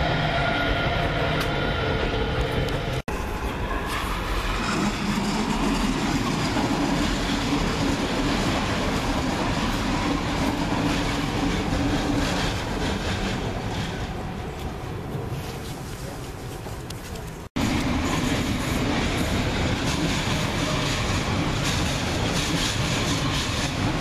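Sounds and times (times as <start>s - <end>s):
train wheels running on rail: 0.0s - 24.0s.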